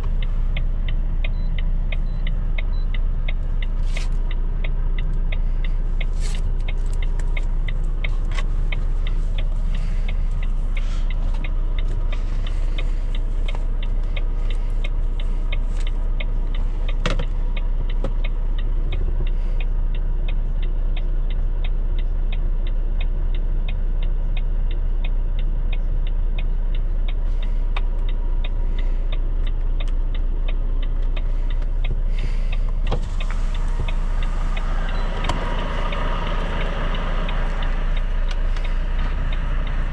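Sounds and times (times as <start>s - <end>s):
light regular ticking: 0.0s - 39.9s
truck diesel engine running: 0.0s - 39.9s.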